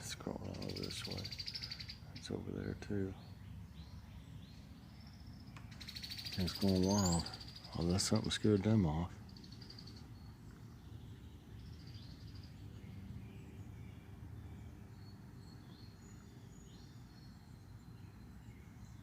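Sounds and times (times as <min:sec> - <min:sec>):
songbirds chirping and whistling: 0:00.0 - 0:19.0.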